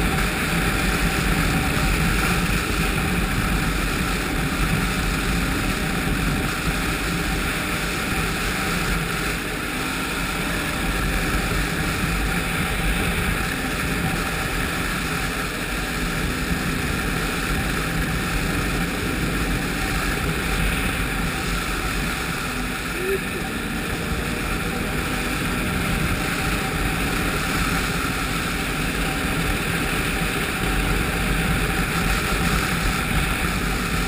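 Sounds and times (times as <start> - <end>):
snowmobile engine running: 0.0 - 34.0.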